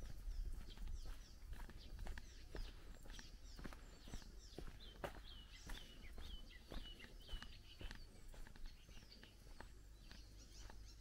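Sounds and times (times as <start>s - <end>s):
footsteps on dirt path: 0.0s - 11.0s
wild birds chirping: 0.0s - 11.0s.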